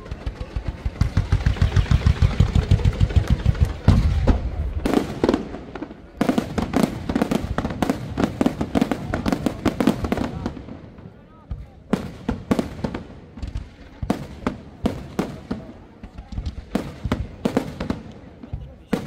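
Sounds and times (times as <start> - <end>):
firework cracks and bangs: 0.0 - 19.0
deep firework booms: 0.4 - 19.0.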